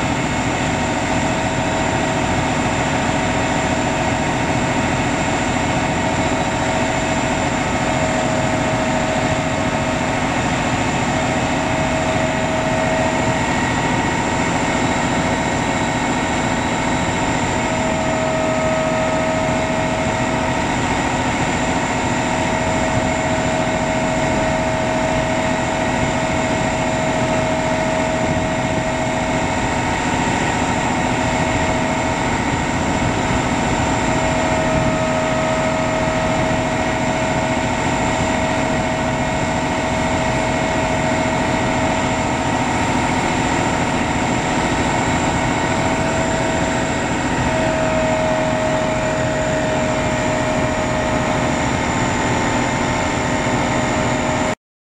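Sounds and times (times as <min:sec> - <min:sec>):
hydraulic crane whine: 0:00.0 - 0:54.6
truck engine idling: 0:00.0 - 0:54.6.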